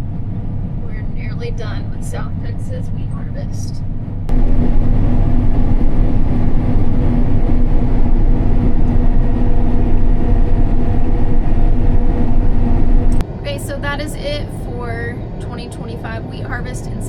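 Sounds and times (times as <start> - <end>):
combine harvester engine drone: 0.0 - 17.0
constant hum: 0.0 - 17.0.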